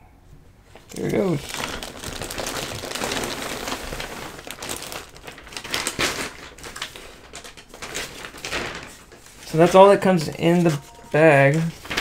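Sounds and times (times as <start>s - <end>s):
plastic bag crinkling and rustling: 0.7s - 12.0s.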